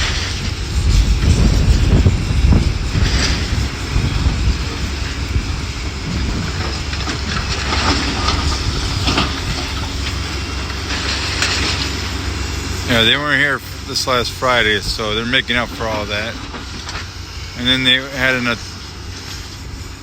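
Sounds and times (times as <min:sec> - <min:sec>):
debris scraping and clanking: 0:00.0 - 0:12.1, 0:12.8 - 0:19.5
demolition machinery rumbling: 0:00.0 - 0:20.0.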